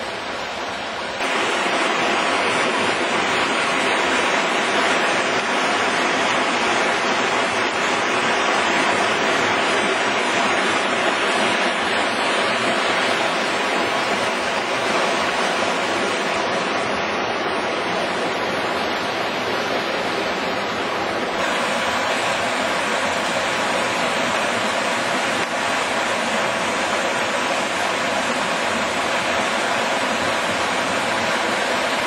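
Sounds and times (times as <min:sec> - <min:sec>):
water rushing through rocky channel: 0:00.0 - 0:32.0.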